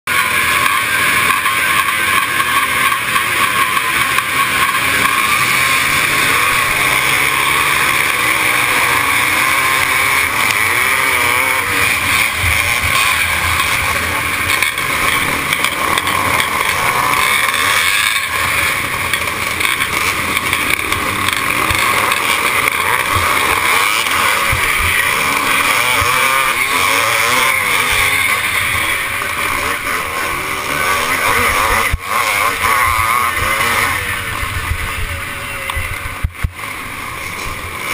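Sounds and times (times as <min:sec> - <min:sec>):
motocross motorcycle engines revving: 0:00.0 - 0:37.9.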